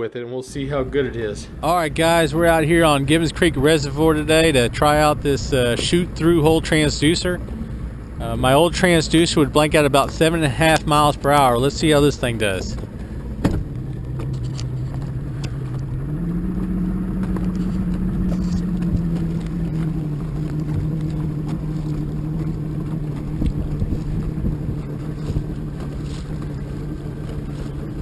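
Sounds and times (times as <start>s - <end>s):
outboard motor running: 0.6s - 28.0s
water rushing against hull: 1.6s - 28.0s.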